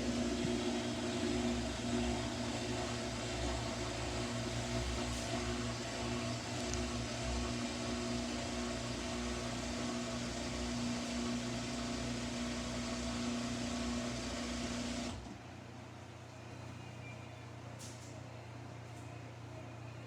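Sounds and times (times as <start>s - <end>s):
washing machine spinning: 0.0s - 16.3s.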